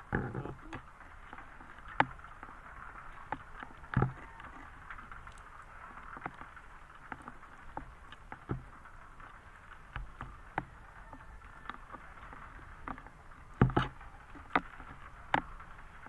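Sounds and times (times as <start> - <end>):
water hissing around boat: 0.0 - 16.0
knocks and taps handling a net: 0.1 - 15.7.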